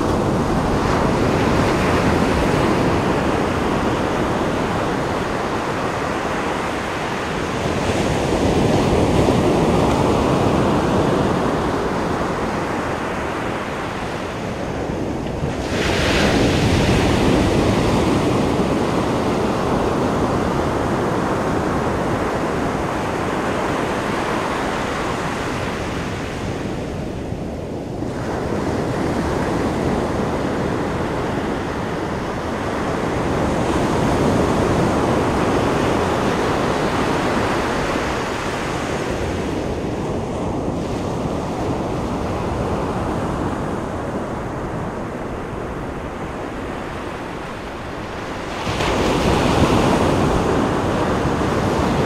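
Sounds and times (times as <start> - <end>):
waves breaking on shore: 0.0 - 52.0.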